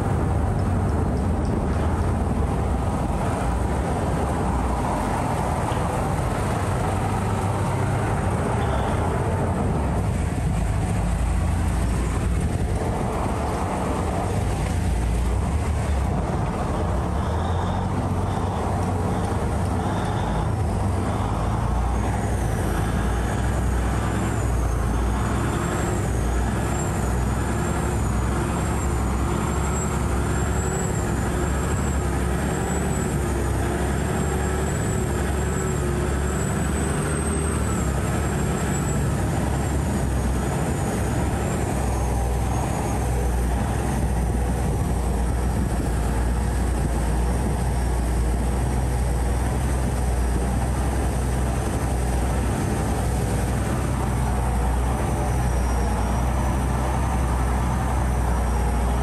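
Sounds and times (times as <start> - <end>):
boat diesel engine droning: 0.0 - 59.0.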